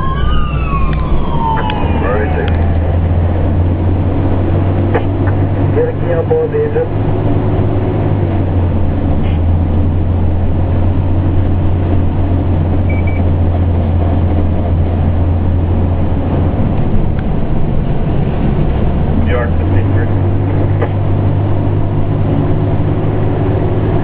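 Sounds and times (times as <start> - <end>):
fire engine diesel drone: 0.0 - 24.0
road noise: 0.0 - 24.0.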